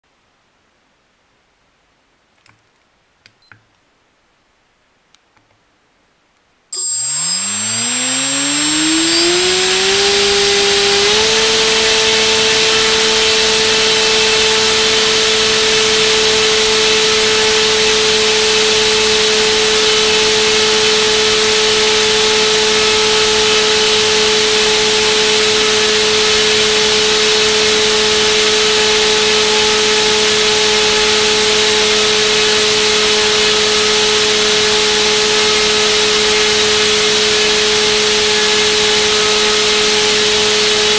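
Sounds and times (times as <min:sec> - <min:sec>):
electric motor spinning propeller: 0:06.8 - 0:40.9.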